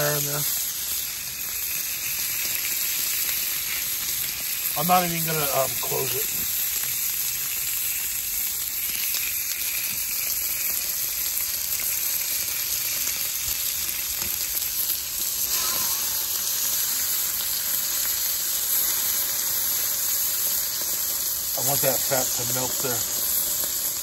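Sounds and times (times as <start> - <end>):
fat dripping onto charcoal: 0.0 - 24.0
steak sizzling on grill: 0.0 - 24.0.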